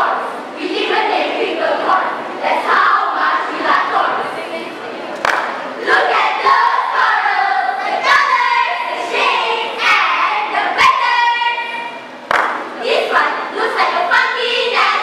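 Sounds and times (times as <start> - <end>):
girls choir chanting in unison: 0.0 - 4.8, 5.8 - 15.0.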